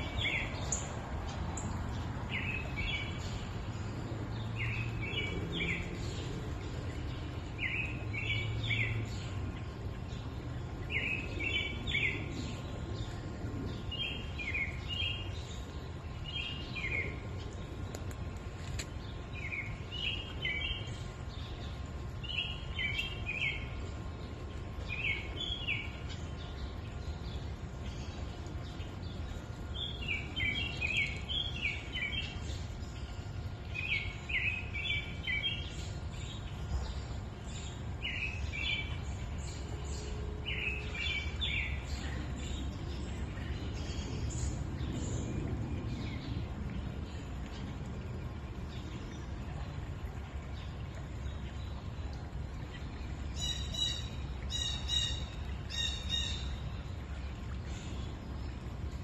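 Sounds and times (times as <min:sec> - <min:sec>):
creek flowing: 0:00.0 - 0:59.0
songbird singing: 0:00.0 - 0:59.0.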